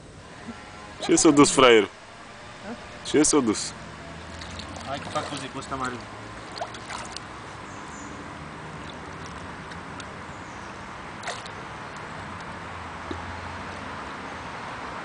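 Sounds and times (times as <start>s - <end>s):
open-air background hiss: 0.0s - 15.0s.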